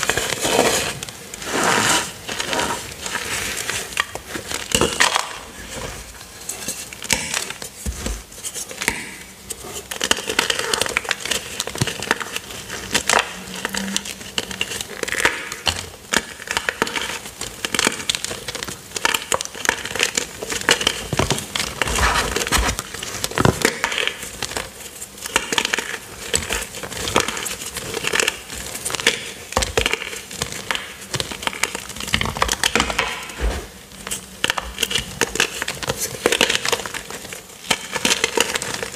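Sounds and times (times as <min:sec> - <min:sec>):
chalk blocks crunching: 0:00.0 - 0:38.9.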